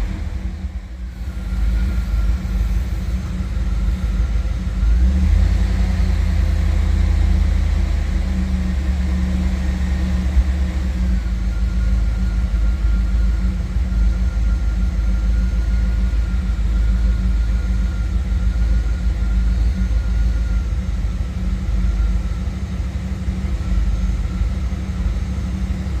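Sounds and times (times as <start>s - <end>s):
car engine idling: 0.0s - 26.0s
faint steady whine: 0.0s - 26.0s.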